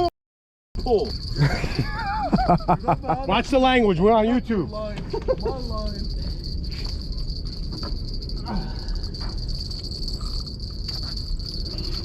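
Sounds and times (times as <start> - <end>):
crickets trilling: 0.8 - 12.0
low steady rumble: 0.8 - 12.0.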